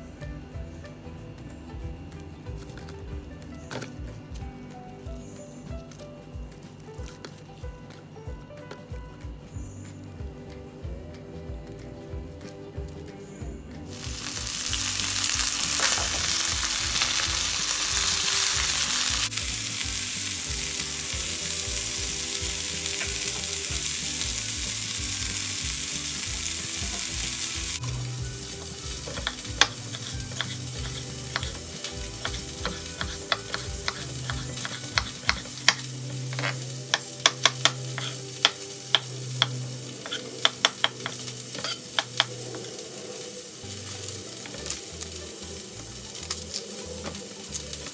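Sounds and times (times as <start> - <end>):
loud steady hiss: 8.9 - 47.9.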